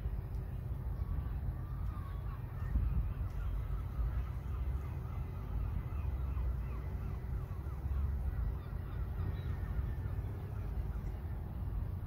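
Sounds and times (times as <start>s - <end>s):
wind rumble on microphone: 0.0s - 12.0s
birds chirping: 0.1s - 12.0s.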